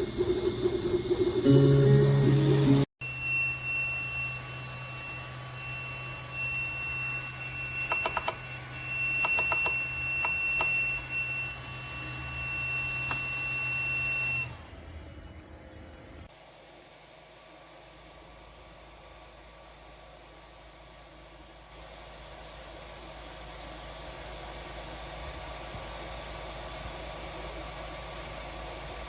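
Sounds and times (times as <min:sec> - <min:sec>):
three d printer whine and hum: 0:00.0 - 0:29.0.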